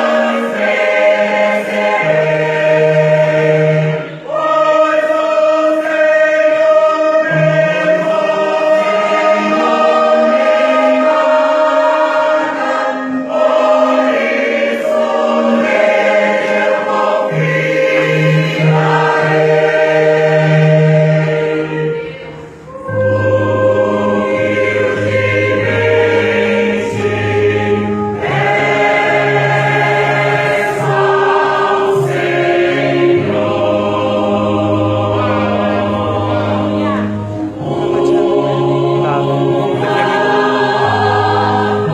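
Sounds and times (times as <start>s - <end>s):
choir singing in harmony: 0.0s - 41.9s.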